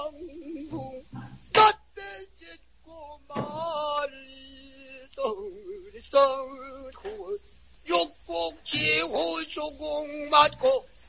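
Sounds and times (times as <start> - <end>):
man singing in strained voice: 0.0 - 11.0.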